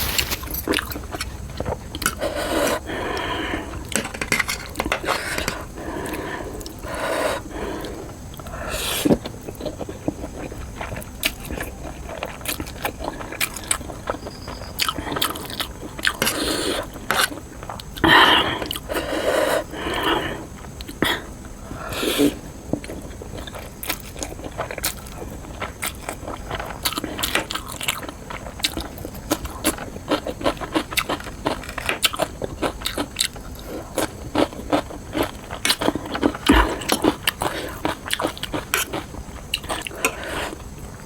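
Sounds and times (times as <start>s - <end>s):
chewing and crunching: 0.0s - 41.0s.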